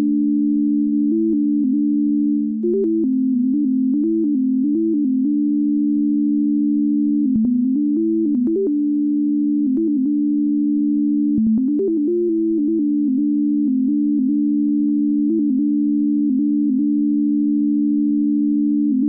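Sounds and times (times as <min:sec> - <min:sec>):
steady low sine tone: 0:00.0 - 0:19.0.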